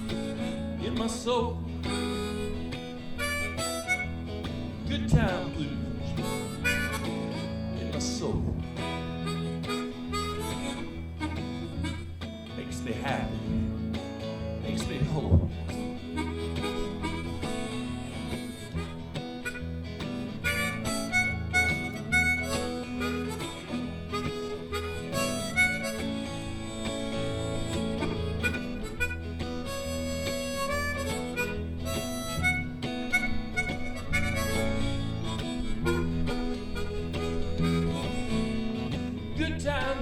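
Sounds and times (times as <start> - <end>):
harmonica lead: 0.0 - 40.0
live blues band playing: 0.0 - 40.0.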